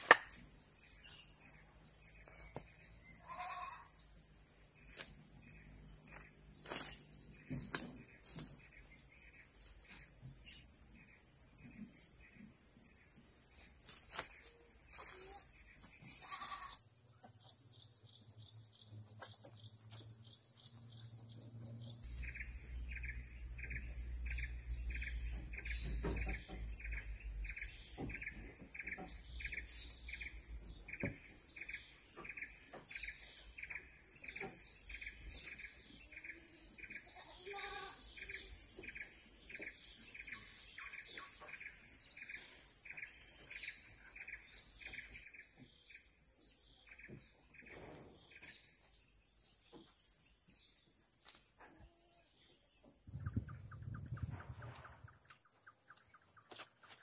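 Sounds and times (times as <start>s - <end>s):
insects droning: 0.0s - 57.0s
short insect chirp: 0.0s - 57.0s.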